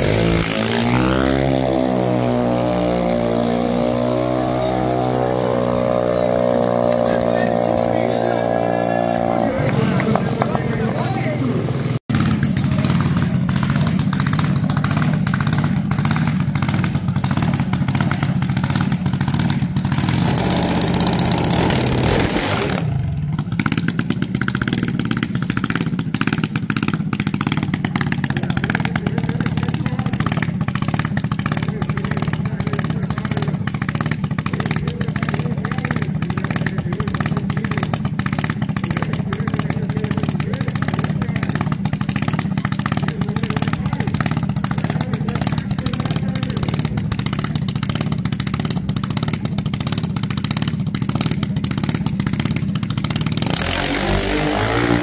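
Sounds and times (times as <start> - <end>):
dragster engine running: 0.0 - 55.0.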